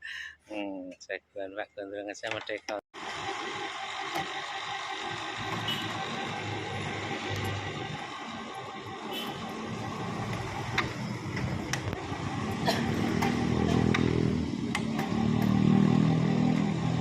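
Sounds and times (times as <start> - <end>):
small engine revving: 3.0 - 17.0.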